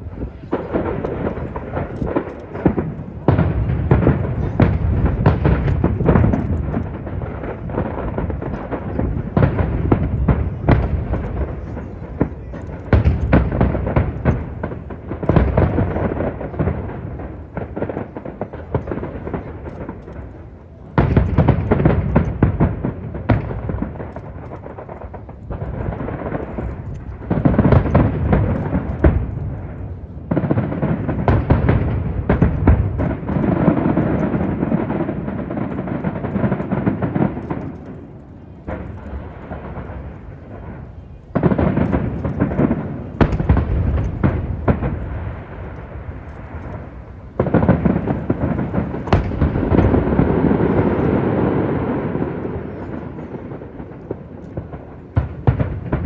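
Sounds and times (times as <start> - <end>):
fireworks bursting: 0.0 - 56.0
wind buffeting microphone: 0.0 - 56.0.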